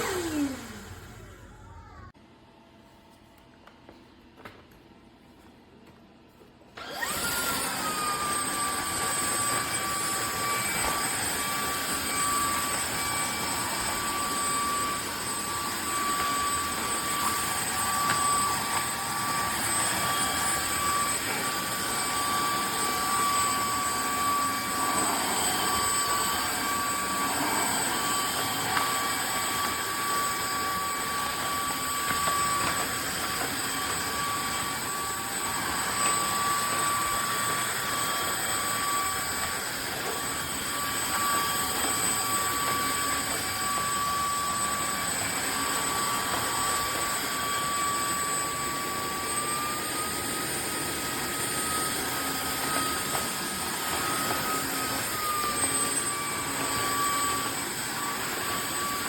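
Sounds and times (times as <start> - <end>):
floor vacuum whine: 0.0 - 59.0.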